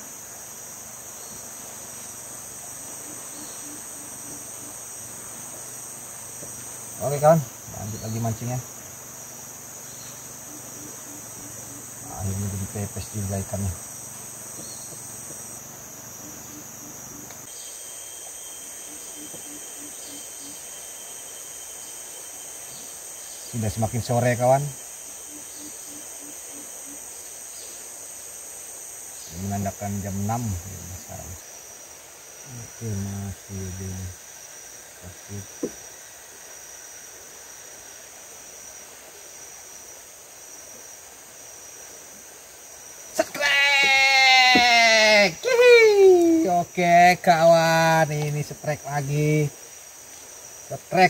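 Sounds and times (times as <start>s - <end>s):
insects chorus: 0.0s - 51.0s.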